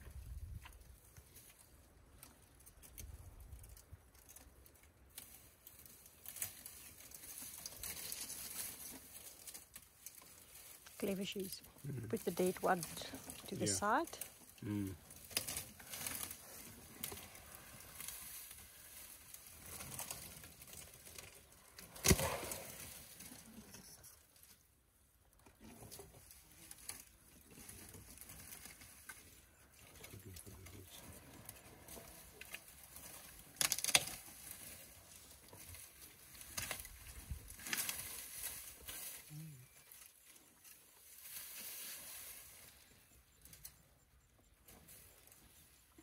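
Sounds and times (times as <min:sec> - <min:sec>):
rustling and tearing dry grass: 0:00.1 - 0:24.7, 0:25.5 - 0:43.8.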